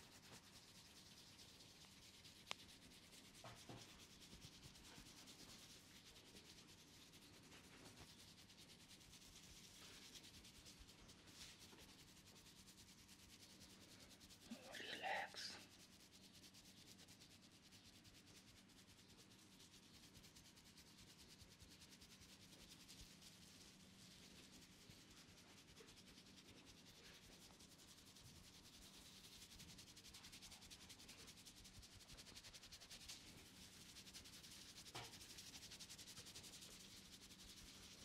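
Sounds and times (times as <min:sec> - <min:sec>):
fingers rustling wet hair: 0:00.0 - 0:38.0.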